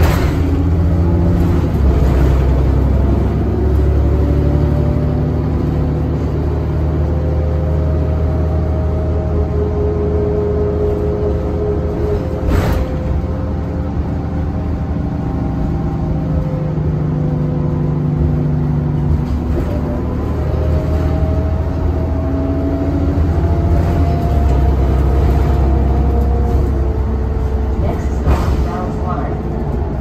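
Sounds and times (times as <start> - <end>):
bus diesel engine drone: 0.0 - 30.0.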